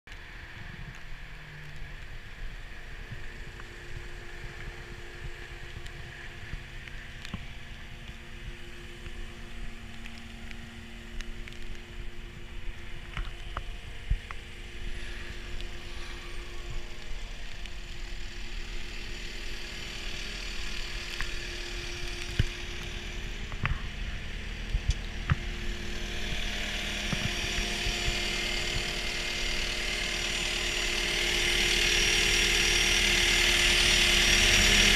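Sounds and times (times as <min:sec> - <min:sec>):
diesel engine idling: 0:02.0 - 0:34.9.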